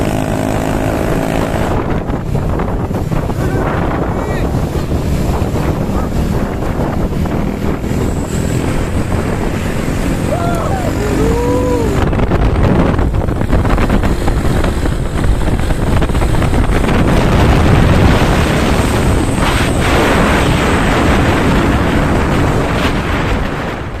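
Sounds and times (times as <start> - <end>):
truck engine and tyres rumble: 0.0 - 24.0
wind buffeting microphone: 0.0 - 24.0.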